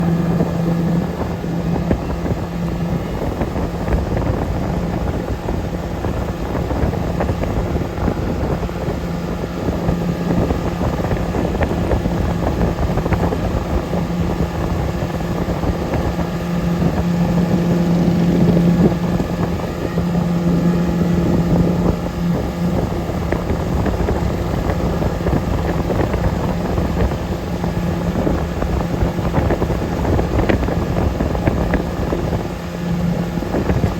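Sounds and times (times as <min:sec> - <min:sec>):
motorboat engine drone: 0:00.0 - 0:33.9
water rushing: 0:00.0 - 0:33.9
wind buffeting microphone: 0:00.0 - 0:33.9.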